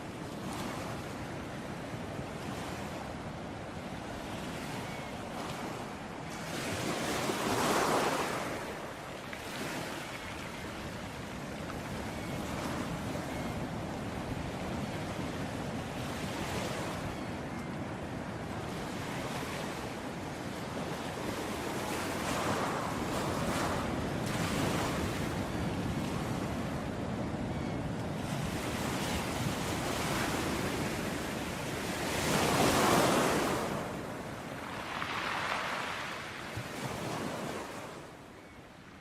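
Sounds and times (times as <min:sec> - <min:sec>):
ocean waves breaking: 0:04.8 - 0:17.2, 0:18.6 - 0:38.5.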